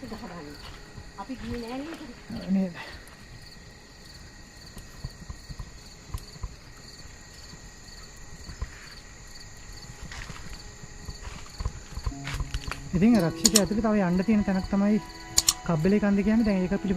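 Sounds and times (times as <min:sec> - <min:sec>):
footsteps on a trail: 0:00.0 - 0:13.7
insects trilling: 0:00.0 - 0:16.9.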